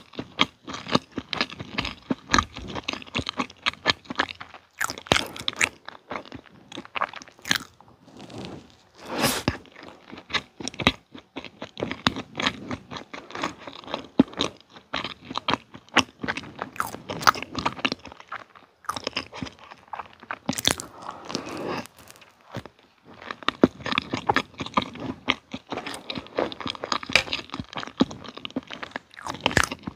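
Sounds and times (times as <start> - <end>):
chewing cake: 0.0 - 29.9.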